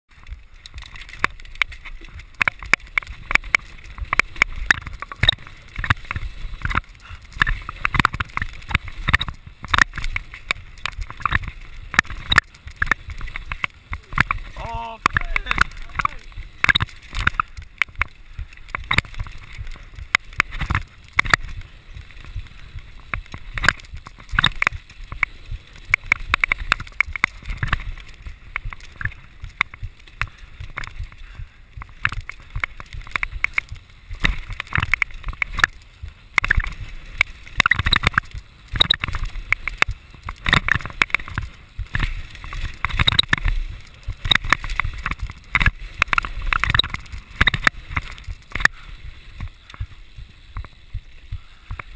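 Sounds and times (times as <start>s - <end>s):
bike chain and frame clanking: 0.1s - 51.9s
tyres on dirt: 0.1s - 51.9s
wind rumbling on microphone: 0.1s - 51.9s.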